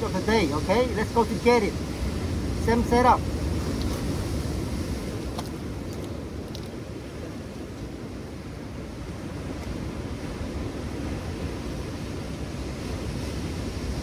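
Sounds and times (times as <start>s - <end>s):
ocean surf: 0.0s - 14.0s
wind: 0.0s - 14.0s.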